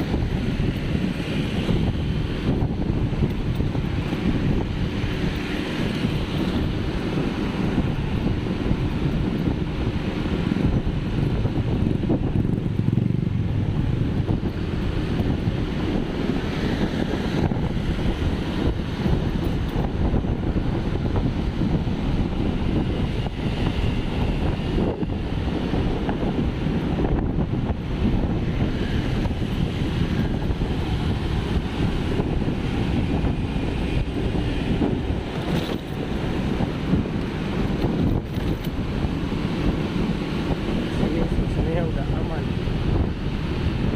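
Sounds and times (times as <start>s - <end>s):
road and engine noise: 0.0s - 43.9s
wind buffeting microphone: 0.0s - 43.9s.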